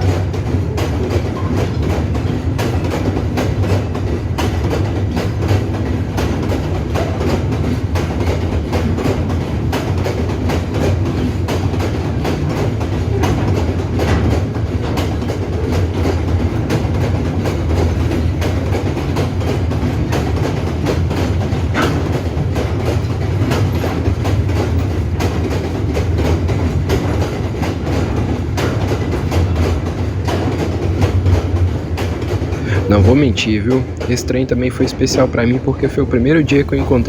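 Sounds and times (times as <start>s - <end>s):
low train rumble: 0.0s - 37.0s
train wheels clicking over rail joints: 0.0s - 37.0s.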